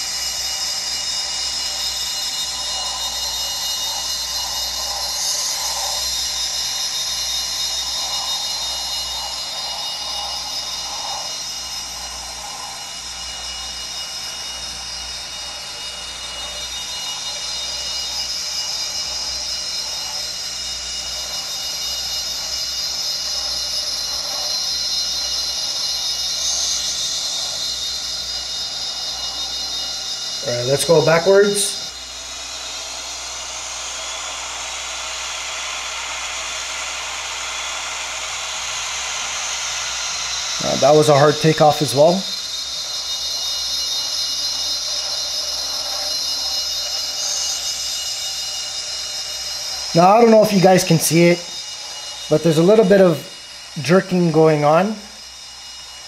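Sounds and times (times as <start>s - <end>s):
high turbine engine whine: 0.0s - 56.0s.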